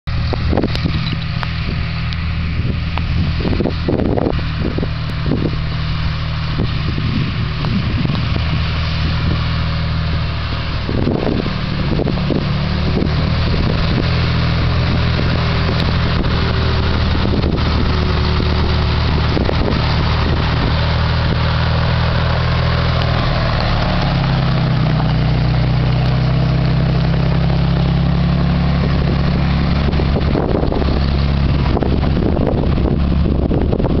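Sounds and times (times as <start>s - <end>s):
fire engine running: 0.0s - 34.0s.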